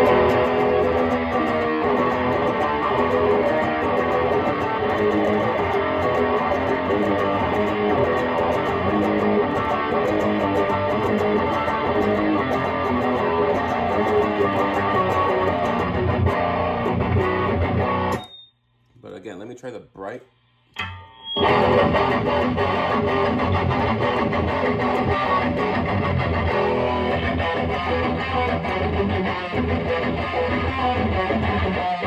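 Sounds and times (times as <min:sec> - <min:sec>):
distorted electric guitar riff: 0:00.0 - 0:18.4, 0:20.0 - 0:32.0.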